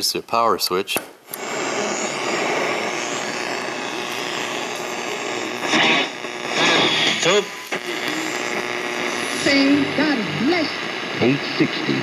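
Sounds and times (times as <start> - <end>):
radio static hiss: 1.3 - 12.0.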